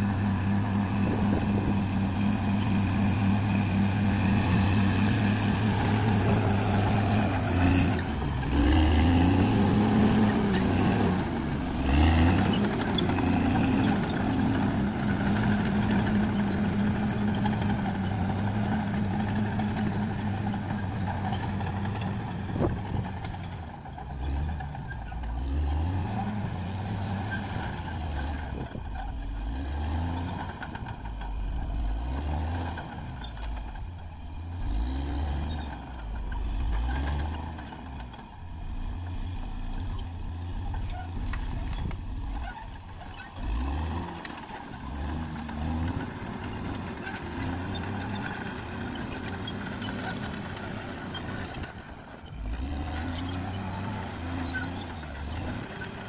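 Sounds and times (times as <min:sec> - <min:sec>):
bulldozer diesel engine revving: 0:00.0 - 0:56.0.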